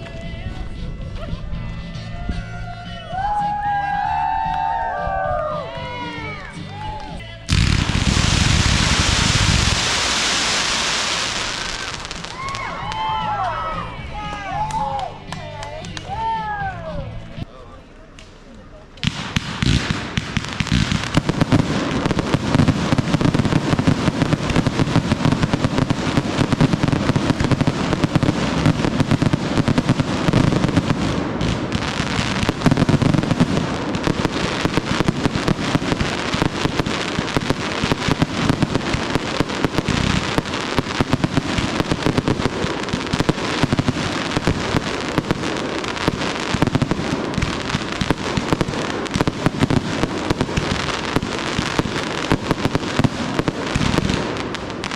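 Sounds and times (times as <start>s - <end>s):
firework bangs and crackles: 3.5s - 16.4s, 18.1s - 54.9s.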